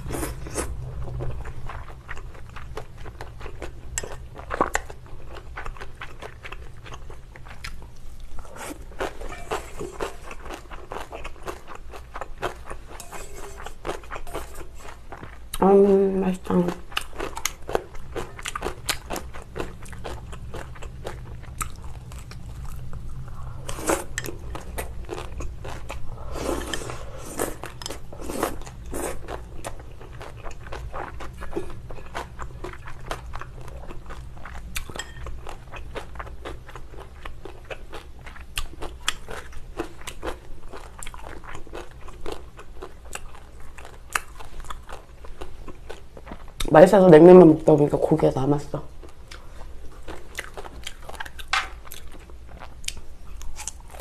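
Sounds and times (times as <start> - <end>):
chewing with crisp crunches: 0.0 - 15.7, 16.4 - 46.7, 48.9 - 54.0.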